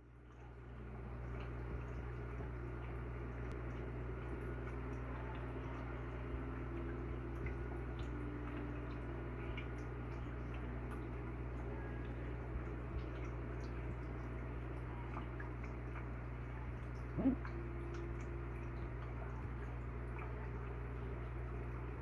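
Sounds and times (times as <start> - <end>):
steady low hum: 0.0 - 22.0
water dripping: 0.0 - 22.0.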